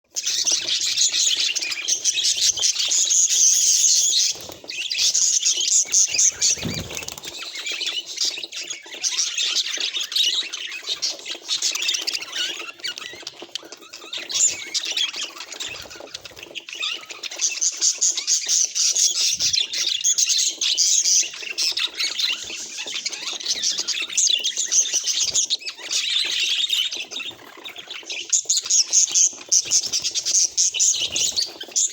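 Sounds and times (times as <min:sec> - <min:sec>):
budgerigars chattering: 0:00.2 - 0:31.9.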